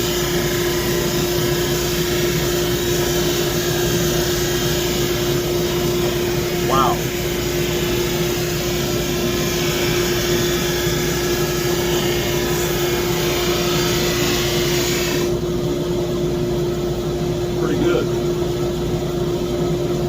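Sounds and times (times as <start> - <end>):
drum sander humming: 0.0 - 20.0.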